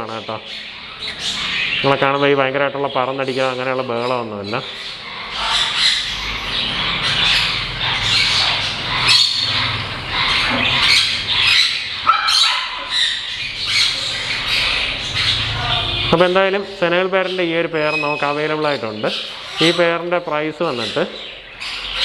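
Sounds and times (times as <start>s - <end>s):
parrots squawking: 0.0s - 22.0s.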